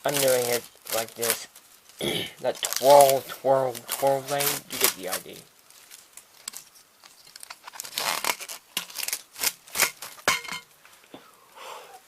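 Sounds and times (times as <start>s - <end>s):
magnetic tape rustling: 0.0s - 11.2s.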